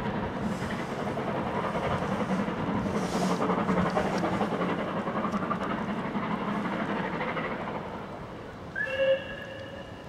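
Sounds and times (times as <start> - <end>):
steam locomotive working: 0.0 - 10.0.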